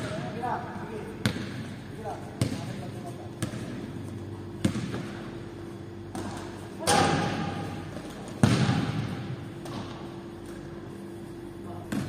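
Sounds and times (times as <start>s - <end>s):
basketball bangs echoing in gym: 0.0s - 12.0s.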